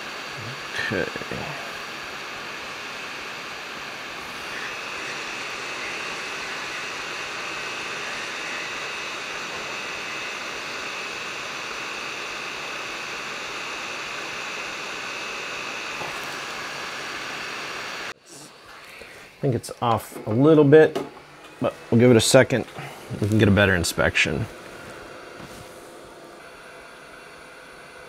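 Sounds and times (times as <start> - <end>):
hot air station hissing: 0.0 - 28.0.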